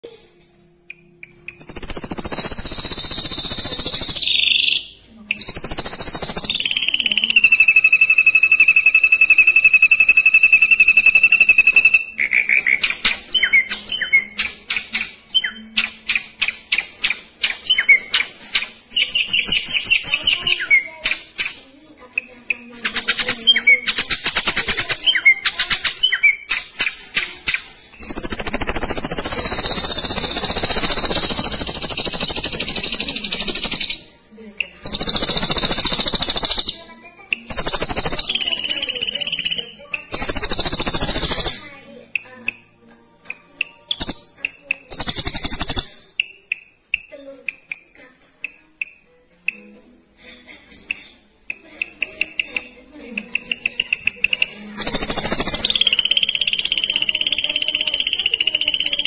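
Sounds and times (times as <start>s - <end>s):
bird singing trills and chirps: 0.9s - 42.7s, 43.3s - 49.7s, 51.5s - 59.0s.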